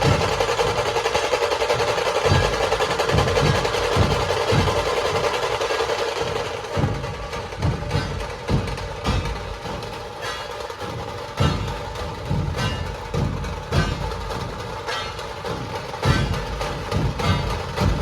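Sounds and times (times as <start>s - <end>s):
deep drum beats: 0.0s - 18.0s
snare drums rolling: 0.0s - 18.0s.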